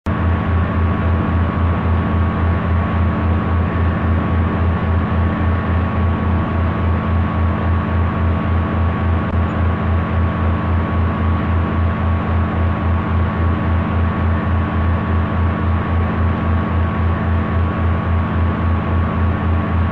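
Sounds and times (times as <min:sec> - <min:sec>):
low mechanical drone: 0:00.1 - 0:19.9.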